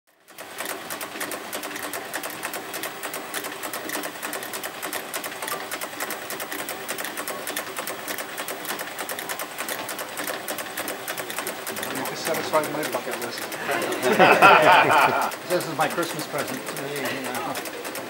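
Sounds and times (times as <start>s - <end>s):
rapid mechanical clicking: 0.1s - 18.0s.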